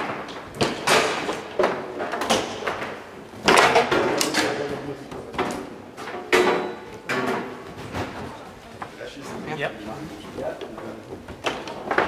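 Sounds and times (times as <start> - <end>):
foosball ball and men clacking: 0.0 - 8.3, 10.5 - 12.0.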